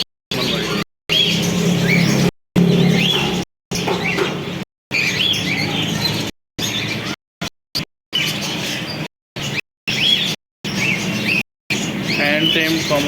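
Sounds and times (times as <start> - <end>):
birds chirping: 0.0 - 7.2, 7.8 - 13.0.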